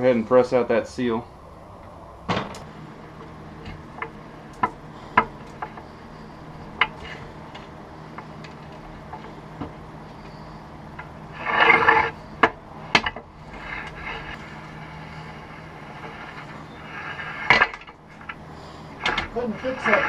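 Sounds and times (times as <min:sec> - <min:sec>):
arbor press creaking: 0:01.5 - 0:20.0.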